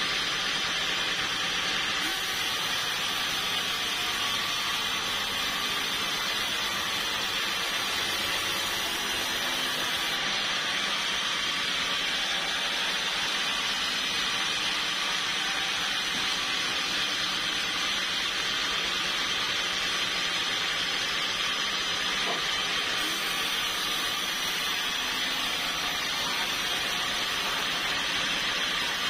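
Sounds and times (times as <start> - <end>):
sawmill machinery hissing: 0.0 - 29.0.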